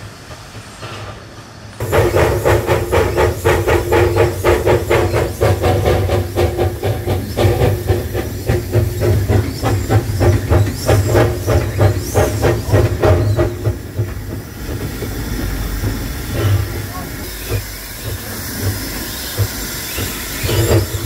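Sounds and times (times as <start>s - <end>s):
steady steam hiss: 0.0s - 21.0s
steam locomotive chuffing: 0.0s - 21.0s.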